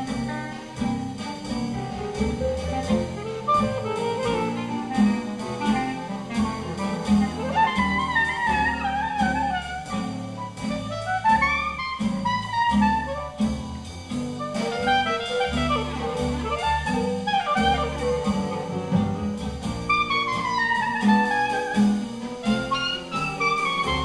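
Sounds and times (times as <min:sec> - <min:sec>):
jazz band: 0:00.0 - 0:24.0
string bass beat: 0:00.0 - 0:24.0
clarinet solo: 0:01.4 - 0:24.0.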